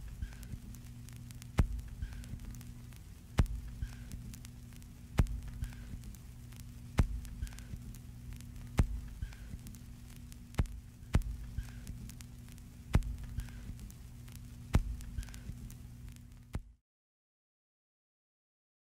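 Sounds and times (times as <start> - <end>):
sharp repeating clicks: 0.0 - 16.2
faint ticks: 0.0 - 16.6
electrical hum: 0.0 - 16.7.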